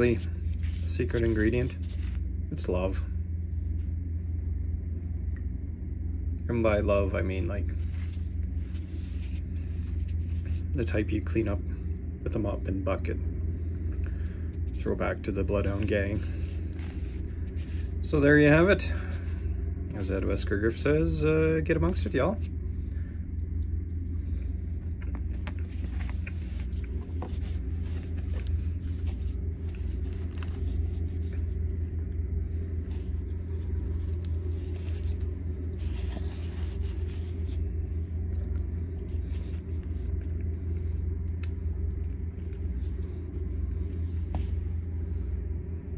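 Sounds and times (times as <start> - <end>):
low background rumble: 0.0 - 45.9.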